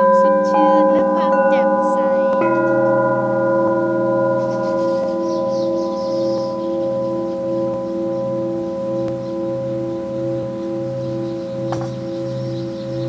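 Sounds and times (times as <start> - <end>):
crystal singing bowls ringing: 0.0 - 13.0.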